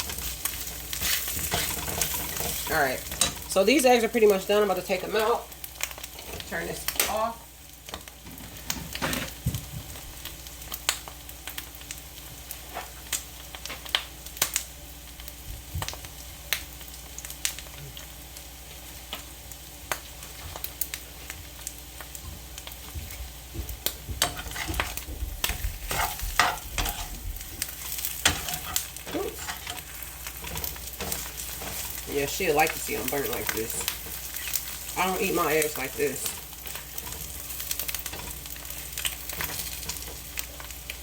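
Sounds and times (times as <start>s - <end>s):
eggs sizzling in oil: 0.0s - 41.0s.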